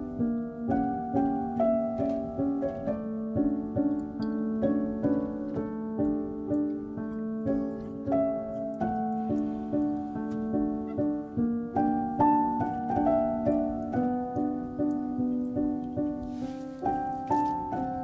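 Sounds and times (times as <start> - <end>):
instrumental background music: 0.0 - 18.0.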